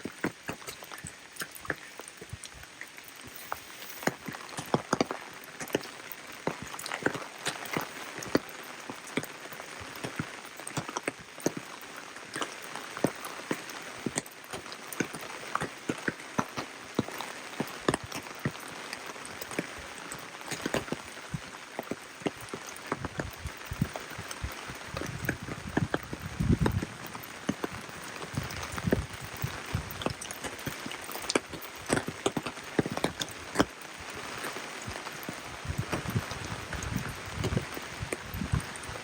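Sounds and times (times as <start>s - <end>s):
rain falling: 0.0s - 39.0s
raindrops striking close by: 0.0s - 39.0s.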